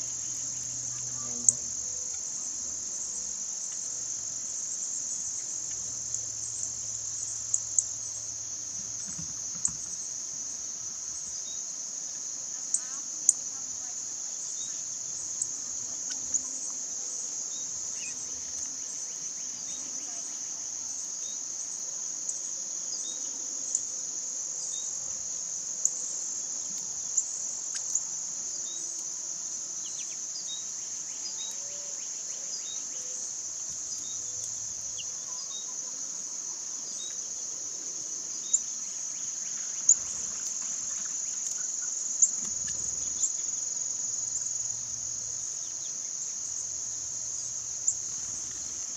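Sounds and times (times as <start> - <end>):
insects chorus: 0.0 - 48.9.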